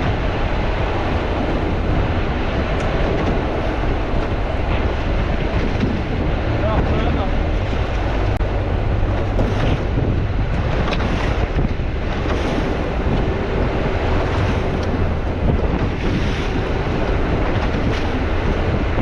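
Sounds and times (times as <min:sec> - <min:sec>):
low continuous drone: 0:00.0 - 0:19.0
water rushing around boat: 0:00.0 - 0:19.0
wind buffeting microphone: 0:00.0 - 0:19.0.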